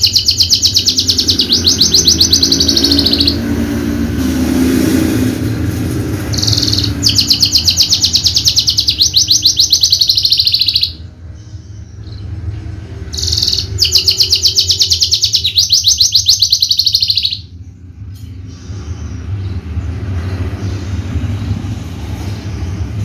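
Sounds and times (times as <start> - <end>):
bird singing fast trill: 0.0 - 3.9, 6.2 - 21.7.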